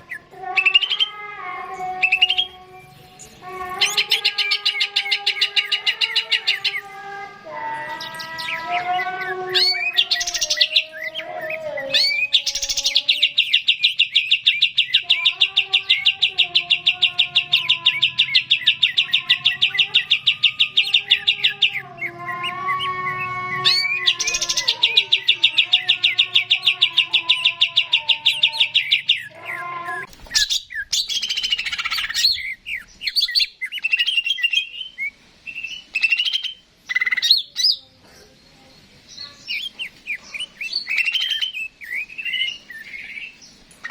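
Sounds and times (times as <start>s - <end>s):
bird singing high trills: 0.0s - 37.8s, 39.2s - 43.9s.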